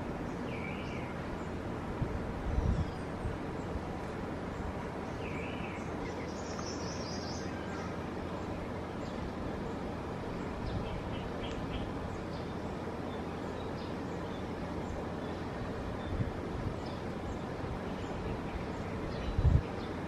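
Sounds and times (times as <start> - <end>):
wind buffeting microphone: 0.0 - 6.6, 7.9 - 12.9, 14.0 - 20.0
birds calling: 0.0 - 20.0.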